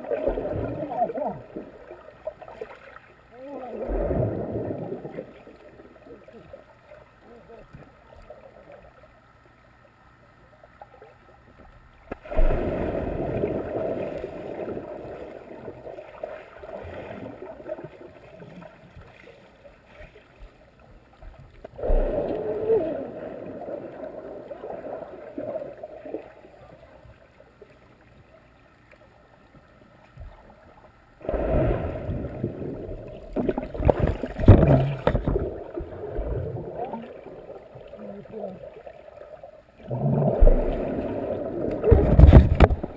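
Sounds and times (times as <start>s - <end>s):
underwater rush of water and bubbles: 0.0s - 42.9s.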